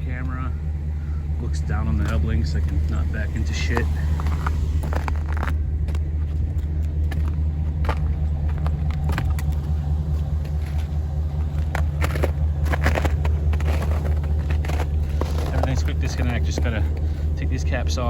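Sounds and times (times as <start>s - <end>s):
pickup truck engine idling: 0.0s - 18.0s.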